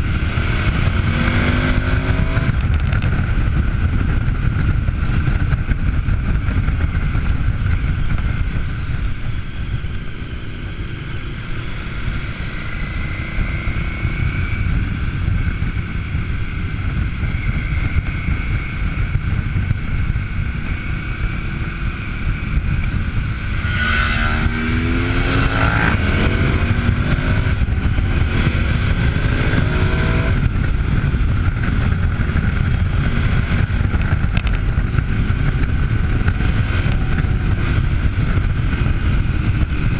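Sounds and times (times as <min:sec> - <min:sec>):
motorcycle engine revving: 0:00.0 - 0:39.9
wind rumble on microphone: 0:00.0 - 0:39.9.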